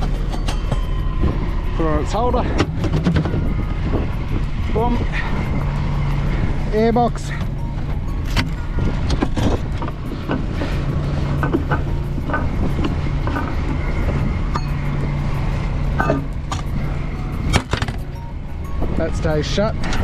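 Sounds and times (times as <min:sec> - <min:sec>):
engine running: 0:00.0 - 0:20.0
metal clinks: 0:00.0 - 0:20.0.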